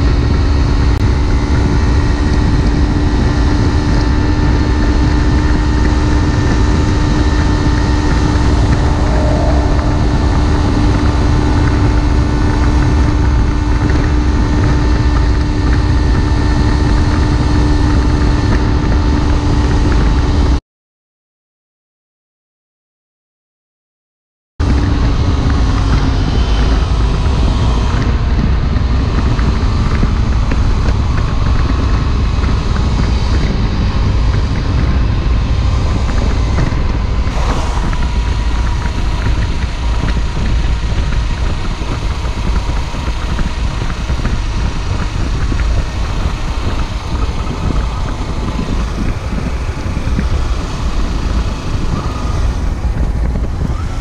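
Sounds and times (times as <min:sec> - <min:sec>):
motorcycle engine running: 0:00.0 - 0:20.6, 0:24.6 - 0:54.0
wind rush on microphone: 0:00.0 - 0:20.6, 0:24.6 - 0:54.0.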